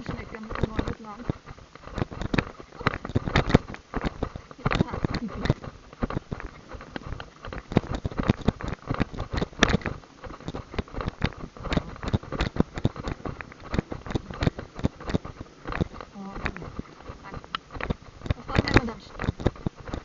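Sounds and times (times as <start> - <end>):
harness sulky rattling: 0.0 - 20.0
horse hooves trotting: 0.0 - 20.0.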